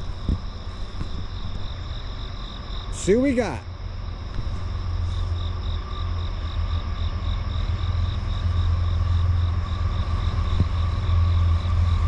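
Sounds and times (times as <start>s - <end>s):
diesel train rumble: 0.0s - 12.0s
insects chirping: 0.0s - 12.0s.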